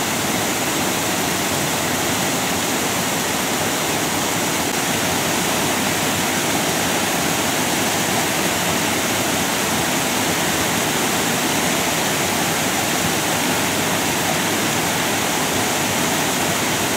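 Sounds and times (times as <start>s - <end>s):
river water rushing over weir: 0.0s - 16.9s.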